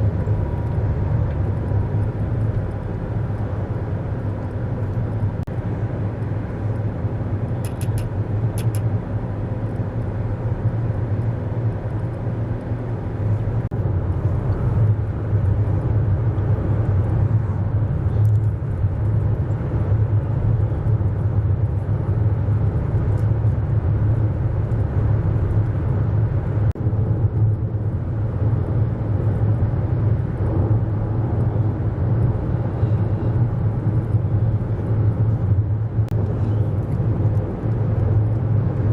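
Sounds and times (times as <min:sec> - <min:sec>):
tyre and wind noise: 0:00.0 - 0:38.9.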